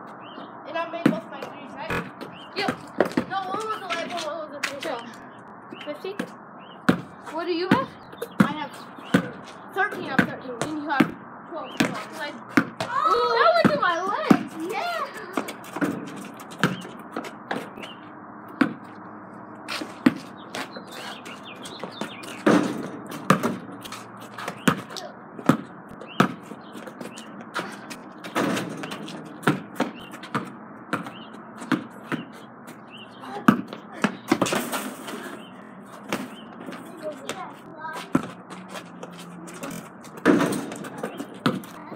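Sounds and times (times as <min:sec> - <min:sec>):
basketball bouncing: 0:01.0 - 0:04.1, 0:06.1 - 0:19.0, 0:19.8 - 0:32.8, 0:33.4 - 0:34.8, 0:36.0 - 0:41.8.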